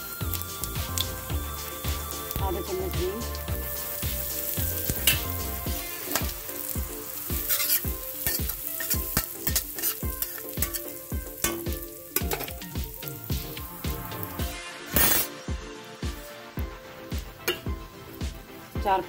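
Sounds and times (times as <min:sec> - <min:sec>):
seeds sizzling in hot oil: 0:00.0 - 0:19.0.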